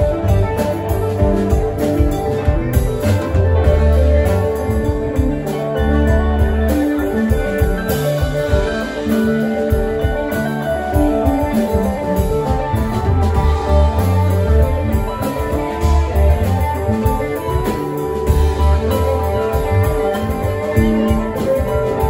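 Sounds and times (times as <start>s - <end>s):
drum kit: 0.0s - 22.0s
electric bass: 0.0s - 22.0s
electric guitar: 0.0s - 22.0s
keyboard: 0.0s - 22.0s.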